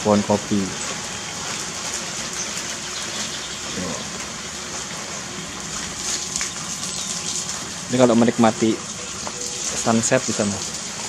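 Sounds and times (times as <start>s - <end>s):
running water hissing: 0.0s - 11.0s.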